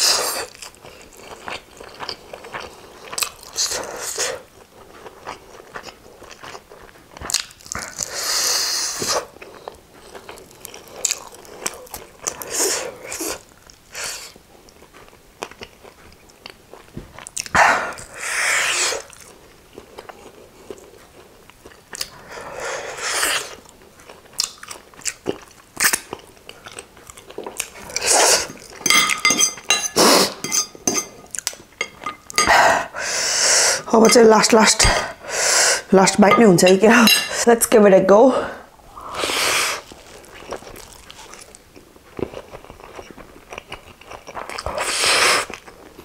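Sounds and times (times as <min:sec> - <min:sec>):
crunching and chewing: 0:00.0 - 0:18.2, 0:18.8 - 0:32.5, 0:39.6 - 0:46.0.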